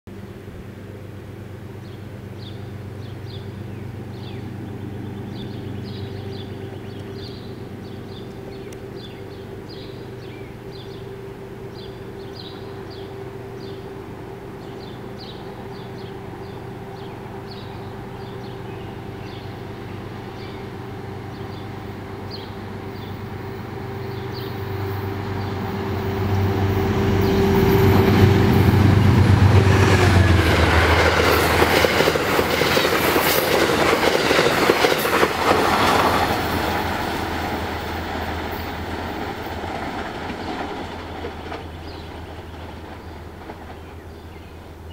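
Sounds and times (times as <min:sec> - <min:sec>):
train approaching with low hum: 0:00.1 - 0:44.9.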